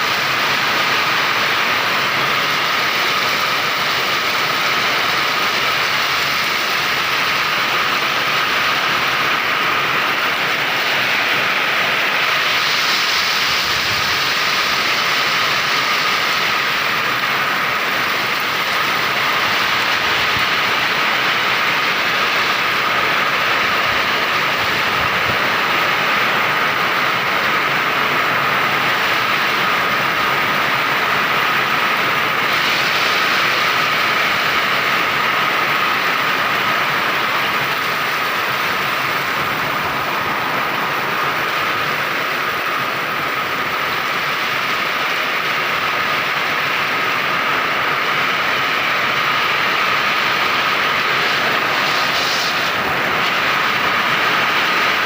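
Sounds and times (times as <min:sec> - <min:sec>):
heavy rain pouring: 0:00.0 - 0:55.0
strong wind: 0:00.0 - 0:55.0.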